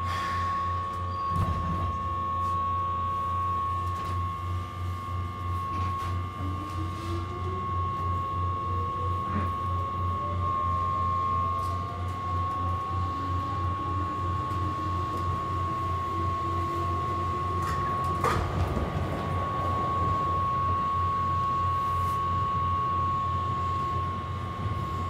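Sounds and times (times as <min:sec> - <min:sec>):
constant high hum: 0:00.0 - 0:25.0
electric train motor whine: 0:00.0 - 0:25.0
low pulsing drone: 0:00.0 - 0:25.0.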